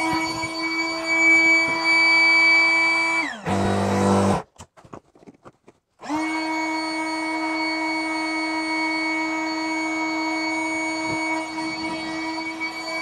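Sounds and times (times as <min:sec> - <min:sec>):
electric air pump whining: 0:00.0 - 0:04.5, 0:06.0 - 0:13.0.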